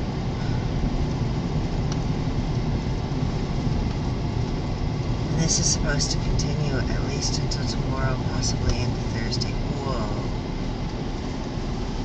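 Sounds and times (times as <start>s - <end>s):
car engine and tyres rumbling: 0.0s - 12.0s
wind gusting against car: 0.0s - 12.0s.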